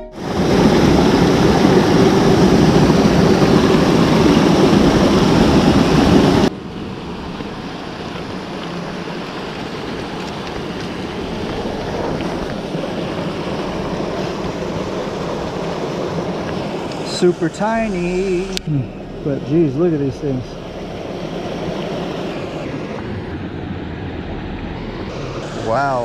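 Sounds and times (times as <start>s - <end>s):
water flowing from small cascade: 0.2s - 23.1s
stream rushing over stones: 0.2s - 23.9s.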